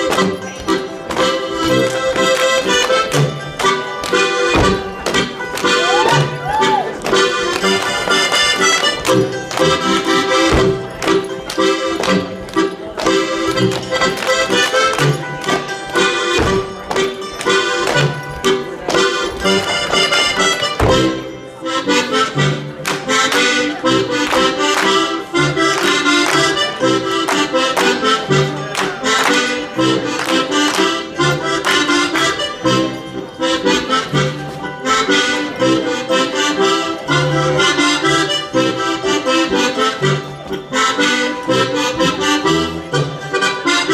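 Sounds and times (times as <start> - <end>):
accordion folk dance tune: 0.0 - 43.9.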